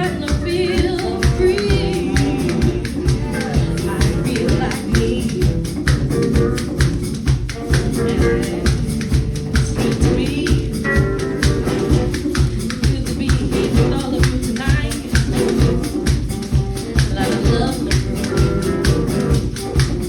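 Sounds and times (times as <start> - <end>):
people singing: 0.0 - 5.9, 7.9 - 18.9
hand drums playing rhythm: 0.0 - 20.0
pitched instruments: 0.0 - 20.0.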